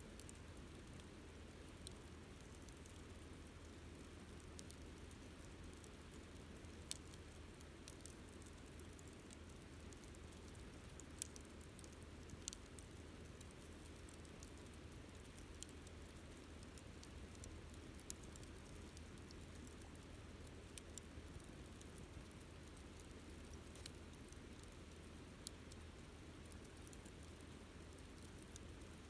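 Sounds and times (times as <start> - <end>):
wood crackling and popping: 0.1 - 29.0.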